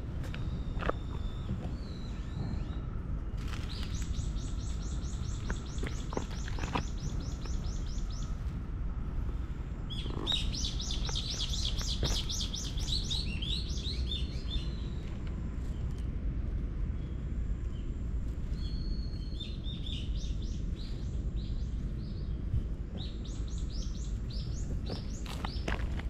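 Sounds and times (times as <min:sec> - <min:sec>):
small songbird singing: 0:00.3 - 0:02.9, 0:03.5 - 0:08.4, 0:09.8 - 0:16.0, 0:16.9 - 0:25.9.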